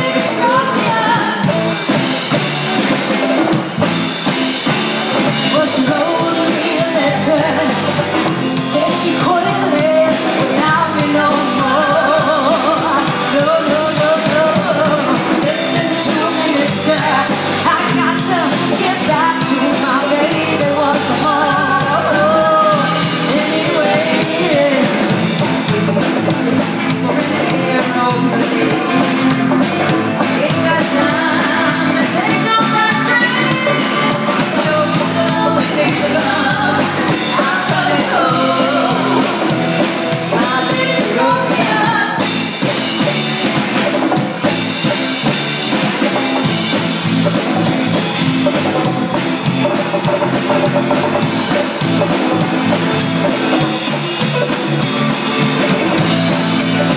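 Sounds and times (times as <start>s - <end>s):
rock song with singing: 0.0s - 56.9s.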